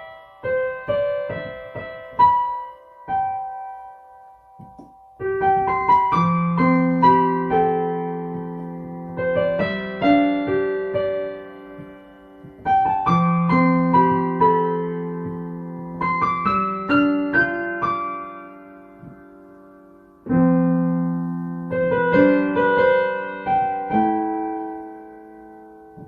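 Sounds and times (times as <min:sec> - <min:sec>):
slow gentle piano music: 0:00.0 - 0:26.0.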